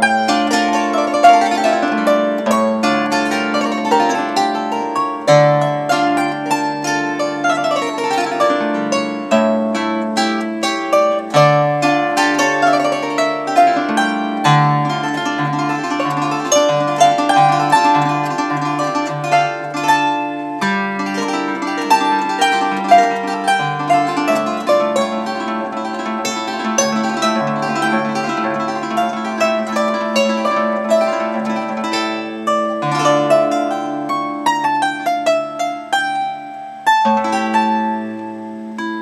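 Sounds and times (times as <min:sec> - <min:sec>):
plucked bandura: 0:00.0 - 0:39.0.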